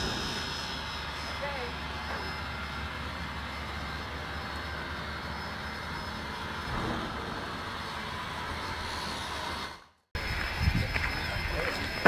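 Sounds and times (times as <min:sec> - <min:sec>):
low hum: 0:00.0 - 0:10.3
steam locomotive hissing: 0:00.0 - 0:12.0.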